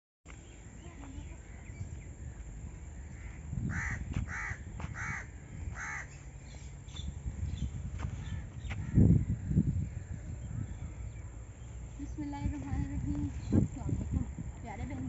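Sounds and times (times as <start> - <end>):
bird calls: 0.3 - 13.7.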